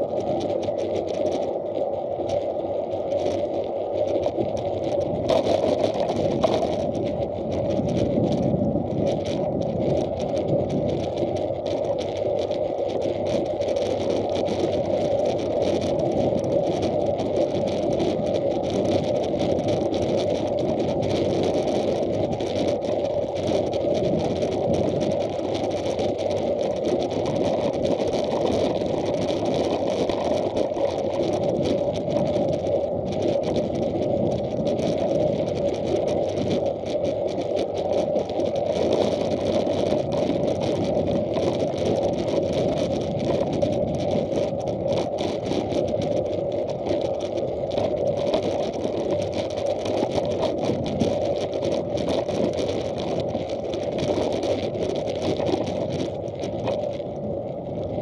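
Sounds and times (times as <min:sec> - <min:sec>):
wheels rolling on asphalt: 0:00.0 - 0:58.0.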